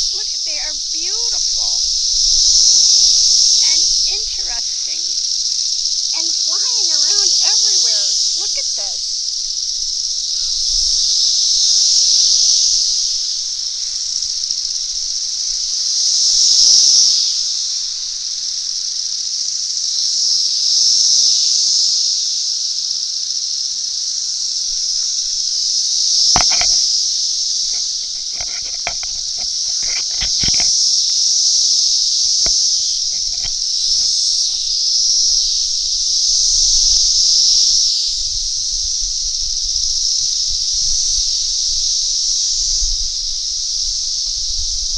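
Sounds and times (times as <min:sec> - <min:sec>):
cicadas droning: 0:00.0 - 0:44.9.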